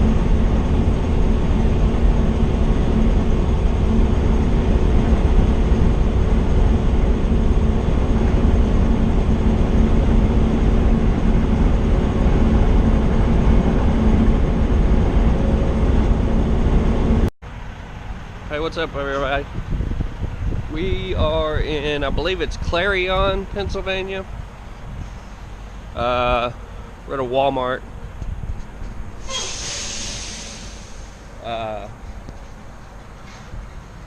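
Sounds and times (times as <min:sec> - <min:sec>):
road rumble: 0:00.0 - 0:34.0
truck engine drone: 0:00.0 - 0:34.0.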